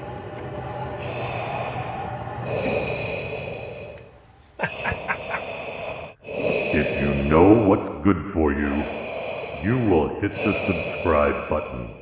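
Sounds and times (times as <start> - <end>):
hissing mechanical respirator breathing: 0.0 - 12.0.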